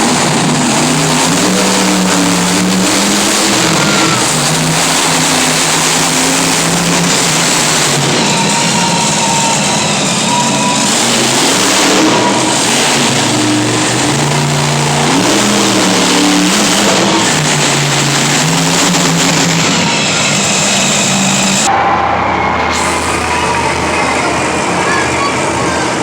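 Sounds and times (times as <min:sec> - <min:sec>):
monster truck engines revving: 0:00.0 - 0:26.0.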